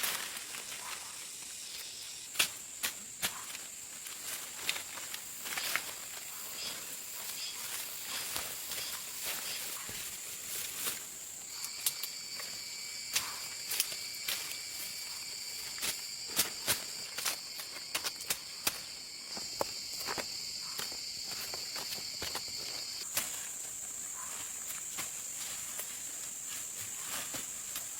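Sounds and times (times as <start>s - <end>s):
high-pitched insect song: 0.0s - 27.9s
lower-pitched insect song: 0.0s - 27.9s.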